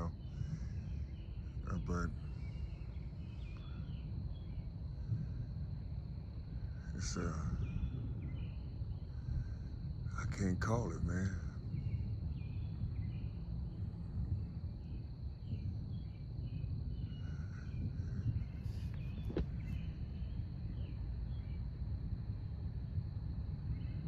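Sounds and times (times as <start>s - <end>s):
high insect drone: 0.0s - 24.0s
insect or bird chirps: 0.0s - 24.0s
low rumble: 0.0s - 24.0s.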